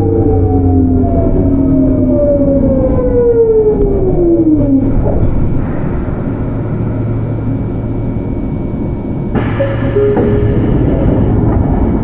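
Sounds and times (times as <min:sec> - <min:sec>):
train car rumble: 0:00.0 - 0:12.0
train inverter whine: 0:00.0 - 0:12.0.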